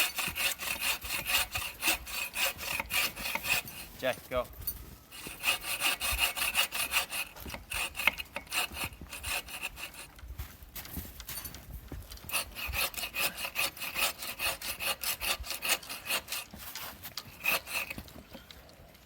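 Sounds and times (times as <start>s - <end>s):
hand saw cutting wood: 0.0s - 4.4s, 5.1s - 10.2s, 12.1s - 18.7s.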